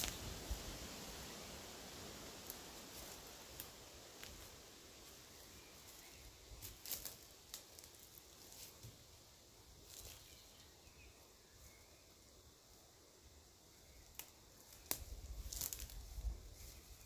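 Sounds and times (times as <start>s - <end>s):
leafy branches rustling: 0.0s - 10.8s, 13.8s - 17.0s.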